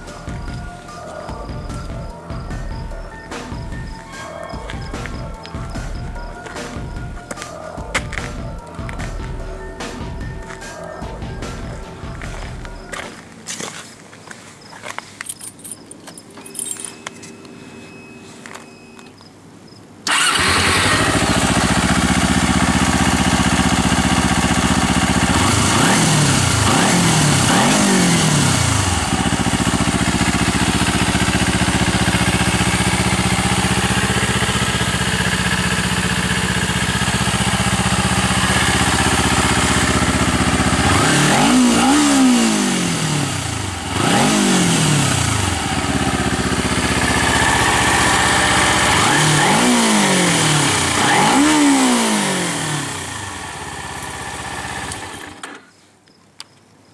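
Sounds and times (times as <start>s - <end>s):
motorcycle engine idling and revving: 0.0s - 13.8s, 20.1s - 55.6s.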